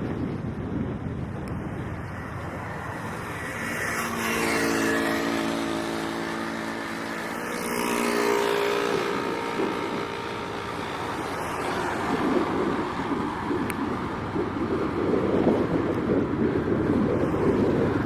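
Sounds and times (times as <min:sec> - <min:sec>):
passing vehicle engine humming: 0:00.0 - 0:18.0
street noise: 0:00.0 - 0:18.0.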